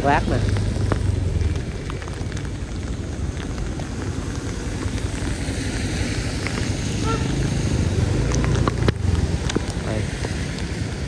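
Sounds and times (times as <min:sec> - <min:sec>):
raindrops ticking close by: 0:00.0 - 0:11.0
steady rain: 0:00.0 - 0:11.0
wind rumble on microphone: 0:00.0 - 0:11.0.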